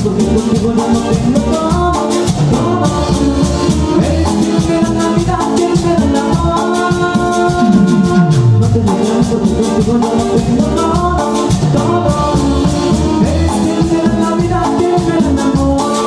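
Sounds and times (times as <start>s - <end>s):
drums: 0.0s - 16.0s
keyboard: 0.0s - 16.0s
live latin dance music: 0.0s - 16.0s.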